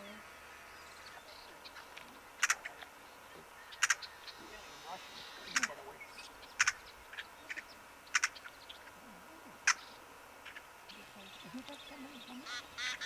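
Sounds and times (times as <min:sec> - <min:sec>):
sharp bird calls: 0:00.0 - 0:13.0.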